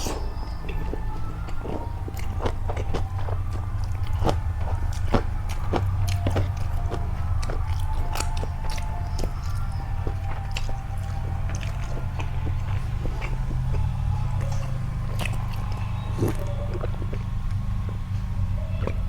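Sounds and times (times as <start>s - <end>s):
person chewing food: 0.0s - 19.0s
steady low hum: 0.0s - 19.0s.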